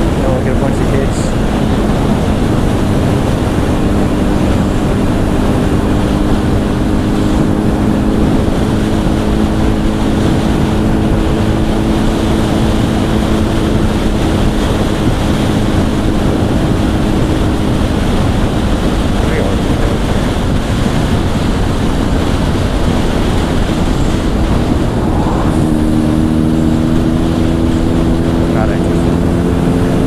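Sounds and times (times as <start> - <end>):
motorcycle engine droning: 0.0 - 30.0
wind buffeting microphone: 0.0 - 30.0.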